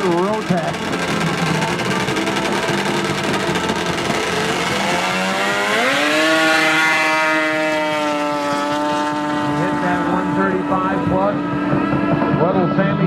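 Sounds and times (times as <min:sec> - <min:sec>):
snowmobile engine accelerating: 0:00.0 - 0:13.0.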